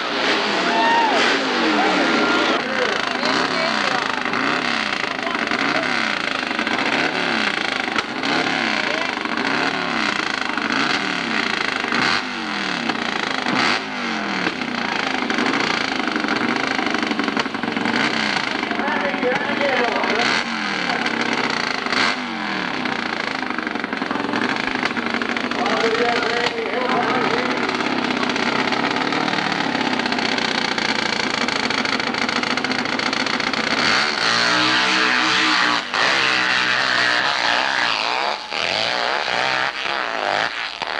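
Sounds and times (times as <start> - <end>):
motorcycle engine revving hard: 0.0 - 40.9.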